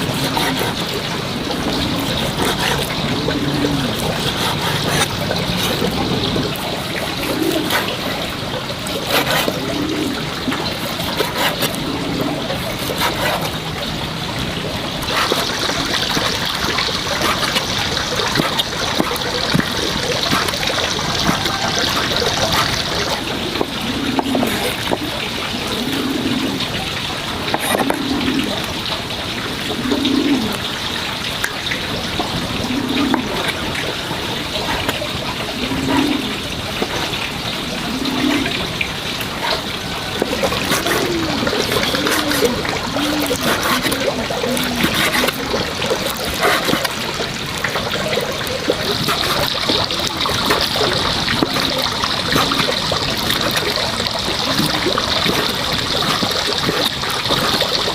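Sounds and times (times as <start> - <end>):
running water trickling: 0.0 - 57.9
small water splashes: 0.0 - 57.9.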